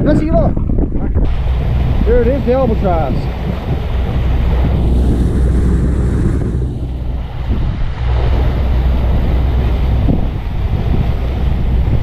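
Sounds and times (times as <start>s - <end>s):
wind buffeting microphone: 0.0s - 12.0s
boat engine rumble: 0.2s - 12.0s
propeller wake rushing: 1.2s - 12.0s.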